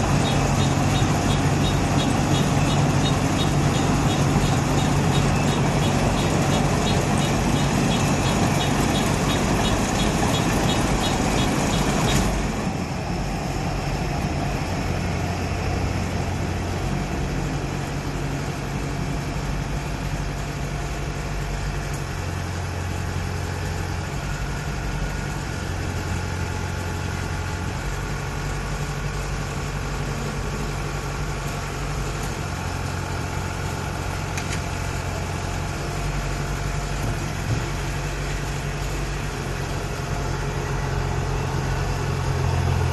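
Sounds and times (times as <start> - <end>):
combine harvester engine: 0.0 - 42.9.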